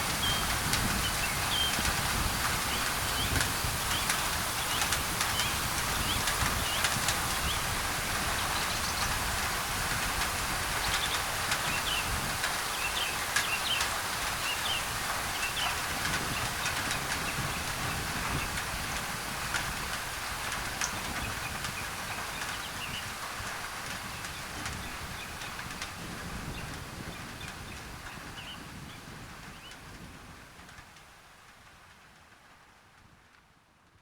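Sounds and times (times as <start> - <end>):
rain on a tin roof: 0.0 - 34.0
white-noise hiss: 0.0 - 34.0.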